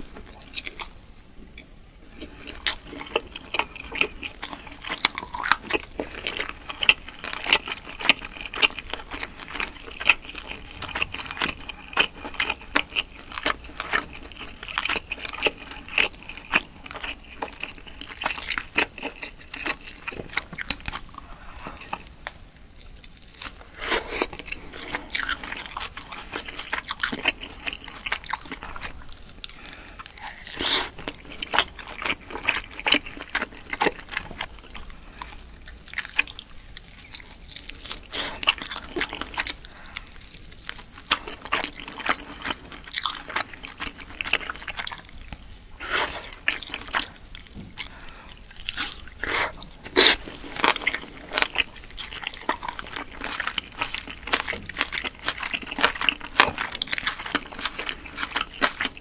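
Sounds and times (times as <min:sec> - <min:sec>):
chewing with wet smacks: 0:01.6 - 0:59.0.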